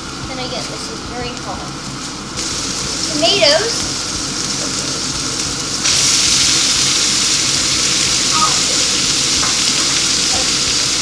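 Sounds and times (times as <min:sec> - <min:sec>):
meat sizzling in a hot pan: 0:00.8 - 0:11.0.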